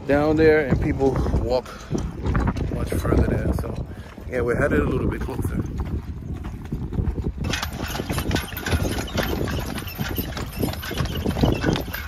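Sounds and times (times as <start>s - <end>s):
horse hooves clip-clopping on asphalt: 0.8s - 12.0s.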